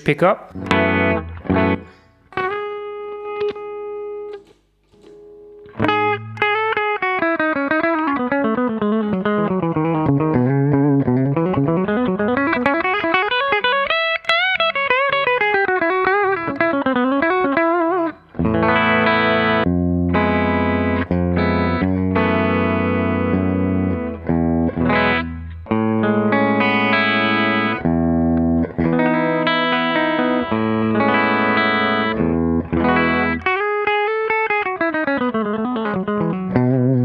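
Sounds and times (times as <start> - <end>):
clean electric guitar: 0.0 - 37.0.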